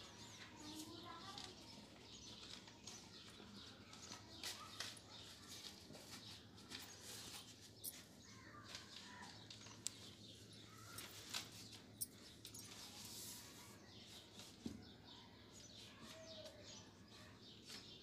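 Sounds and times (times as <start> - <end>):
faint chirping calls: 0.0 - 18.0.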